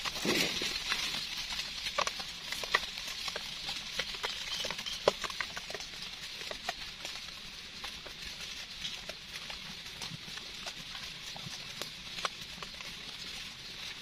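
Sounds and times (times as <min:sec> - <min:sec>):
hands rustling damp leaf litter: 0:00.0 - 0:14.0.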